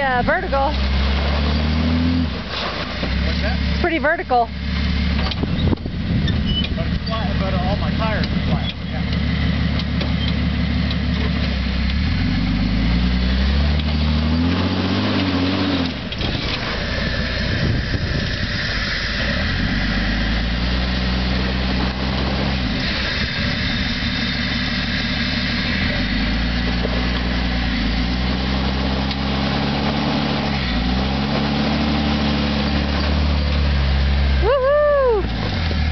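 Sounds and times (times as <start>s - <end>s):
car engine labouring in low gear: 0.0s - 35.9s.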